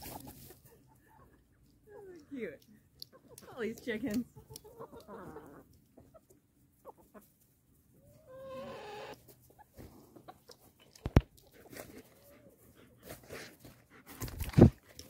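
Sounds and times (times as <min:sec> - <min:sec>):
chickens clucking: 0:00.0 - 0:12.8.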